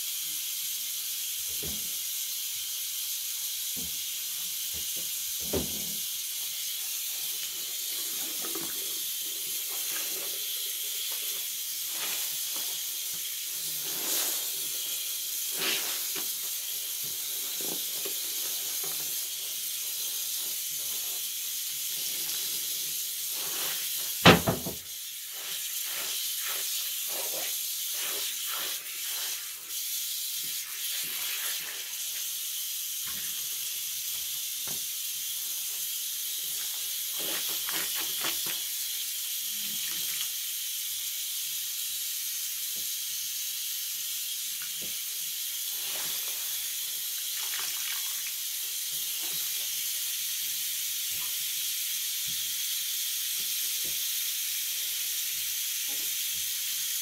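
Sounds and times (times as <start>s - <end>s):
steady high hiss: 0.0s - 47.5s, 48.3s - 57.0s.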